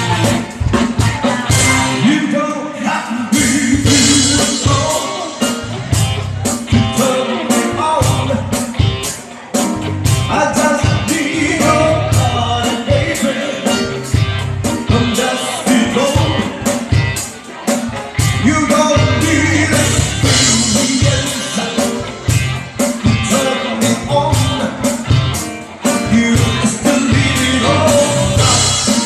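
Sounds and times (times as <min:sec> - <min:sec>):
drum beat: 0:00.0 - 0:02.1, 0:03.3 - 0:29.0
live rock and roll band: 0:00.0 - 0:29.0
person singing: 0:00.0 - 0:29.0.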